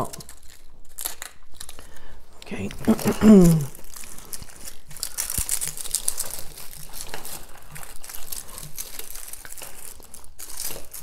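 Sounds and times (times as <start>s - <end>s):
artificial foliage crinkling: 0.0s - 11.0s.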